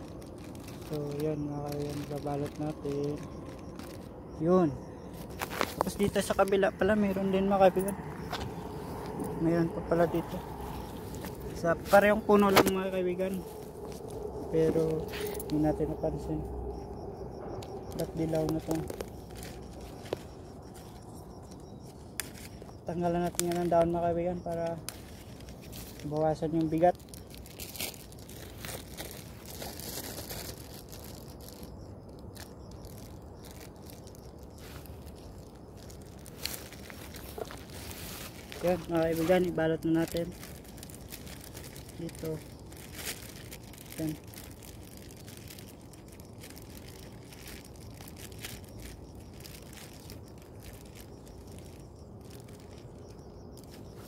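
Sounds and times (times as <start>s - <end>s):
plastic bag crinkling: 0.0s - 16.6s, 17.6s - 54.0s
crackles and clicks: 0.0s - 54.0s
leaves rustling and tearing: 0.0s - 54.0s.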